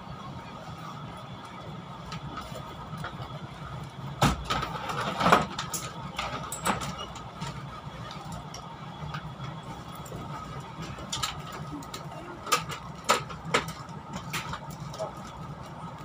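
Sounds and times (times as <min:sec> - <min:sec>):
low hum inside train carriage: 0:00.0 - 0:16.0.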